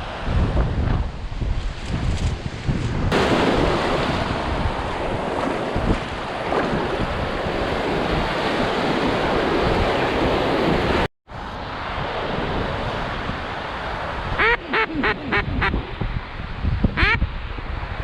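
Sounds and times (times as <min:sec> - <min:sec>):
lake waves breaking on shore: 0:00.0 - 0:16.6
wind buffeting microphone: 0:00.0 - 0:18.0.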